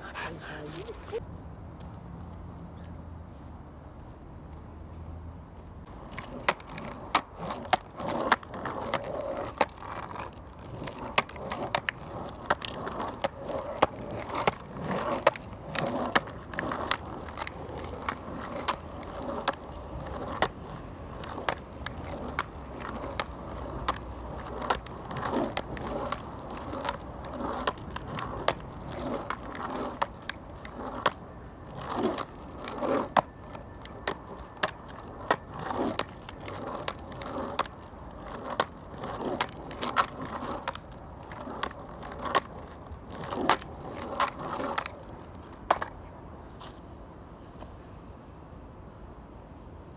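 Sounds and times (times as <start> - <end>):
skateboard wheels rumbling on pavement: 3.8 - 48.7
skateboard clacks: 6.0 - 46.7.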